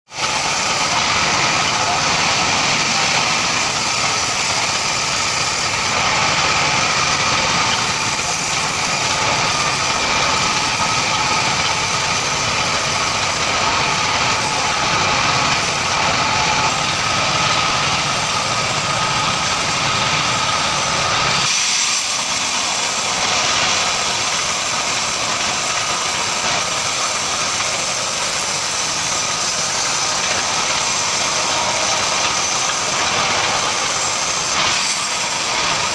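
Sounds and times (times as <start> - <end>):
band saw whining: 0.1 - 35.9.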